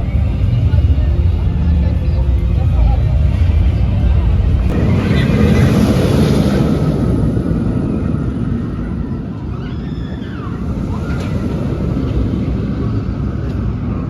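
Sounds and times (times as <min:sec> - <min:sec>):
steady outdoor din: 0:00.0 - 0:14.0
wind rumbling on microphone: 0:00.0 - 0:14.0.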